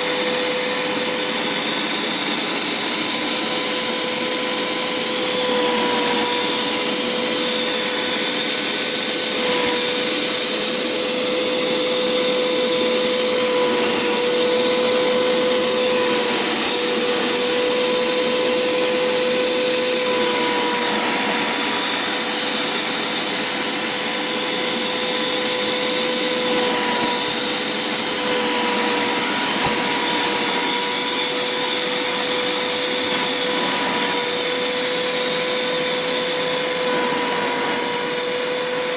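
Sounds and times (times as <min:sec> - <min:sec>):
carpet cleaner motor whine: 0:00.0 - 0:38.9.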